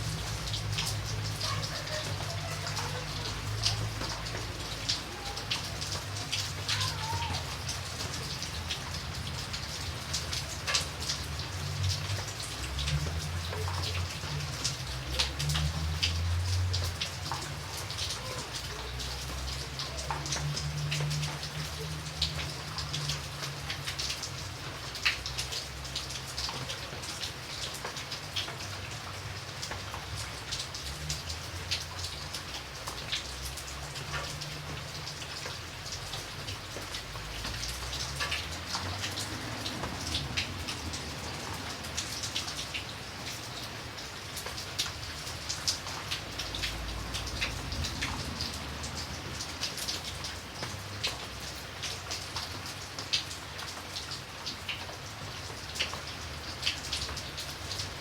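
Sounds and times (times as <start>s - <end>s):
raindrops ticking: 0.0s - 58.0s
steady rain: 0.0s - 58.0s.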